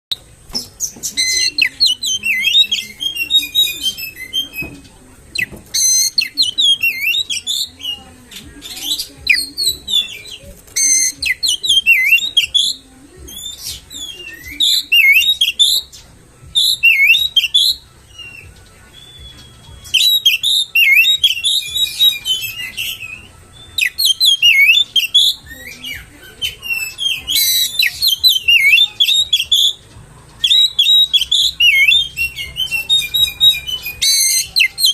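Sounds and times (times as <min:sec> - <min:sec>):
bird singing whistled phrases: 0:00.1 - 0:08.0, 0:08.7 - 0:29.8, 0:30.4 - 0:34.9.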